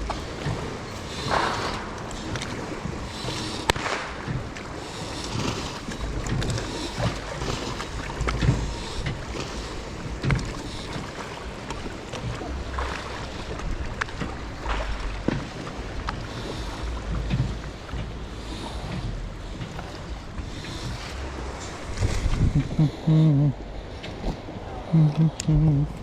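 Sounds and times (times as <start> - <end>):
water splashing against boat hull: 0.0 - 26.0
wind buffeting the microphone: 0.0 - 26.0.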